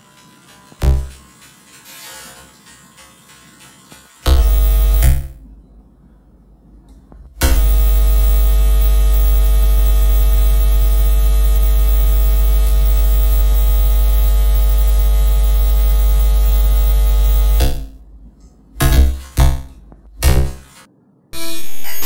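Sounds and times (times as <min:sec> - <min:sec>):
loud electrical hum: 0:00.0 - 0:01.9, 0:03.9 - 0:20.9.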